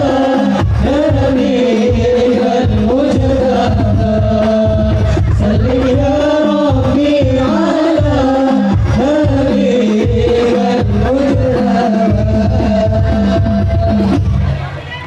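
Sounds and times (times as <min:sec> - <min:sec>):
man singing into microphone: 0:00.0 - 0:14.4
frame drums beating: 0:00.0 - 0:14.6.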